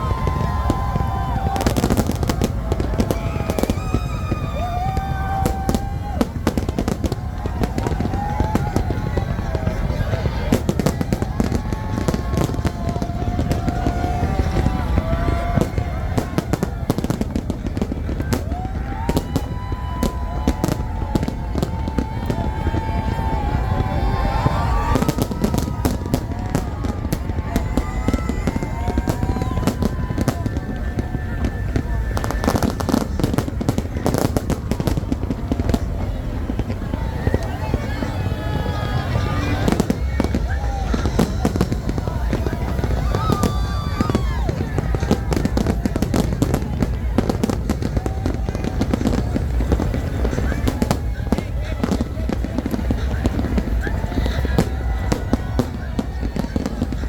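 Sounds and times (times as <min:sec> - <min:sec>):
fireworks bursting and crackling: 0:00.0 - 0:57.0
whistling fireworks: 0:00.0 - 0:57.0.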